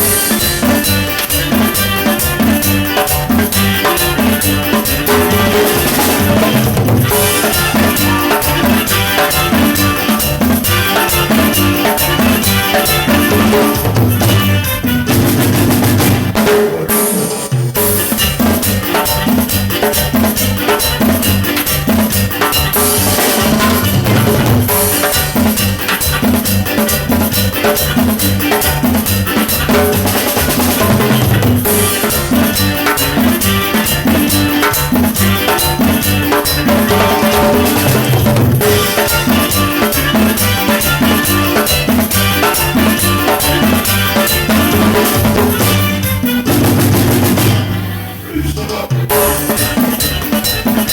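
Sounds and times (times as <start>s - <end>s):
loud dance music with drums: 0.0s - 50.9s.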